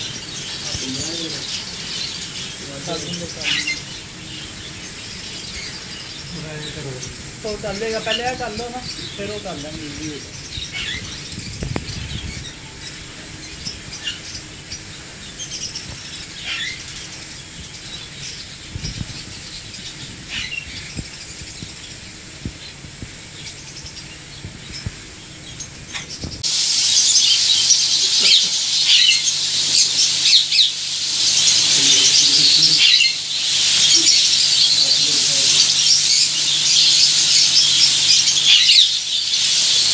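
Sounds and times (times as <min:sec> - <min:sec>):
caged birds chirping: 0:00.0 - 0:39.9
foam spray gun hissing: 0:00.0 - 0:39.9.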